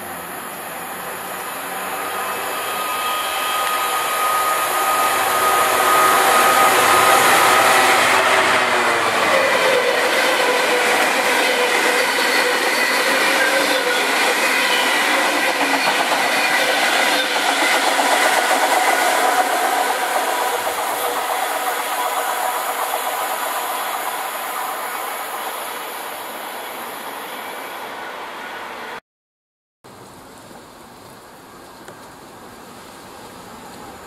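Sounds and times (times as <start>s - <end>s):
diesel locomotives droning: 0.0s - 29.0s.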